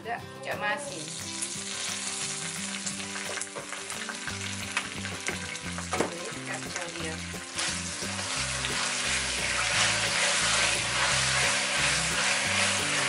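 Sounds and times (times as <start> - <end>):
food sizzling in hot oil: 0.8 - 13.0.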